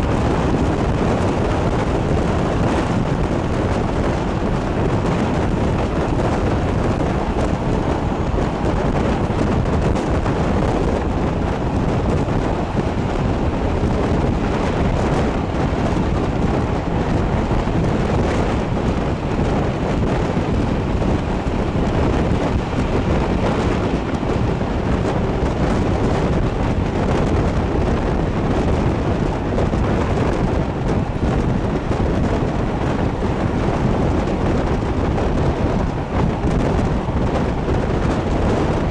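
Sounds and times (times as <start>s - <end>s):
moving train rumbling: 0.0s - 38.9s
wind buffeting microphone: 0.0s - 38.9s.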